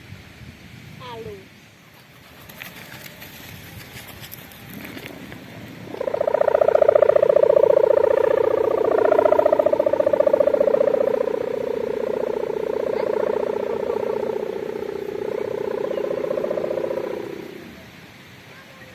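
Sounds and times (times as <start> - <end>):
kite hummer droning: 2.6 - 18.0.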